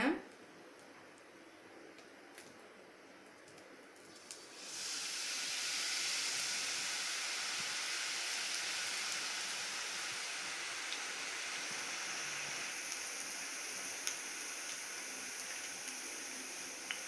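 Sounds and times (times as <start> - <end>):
batter deep-frying in hot oil: 0.3 - 17.0.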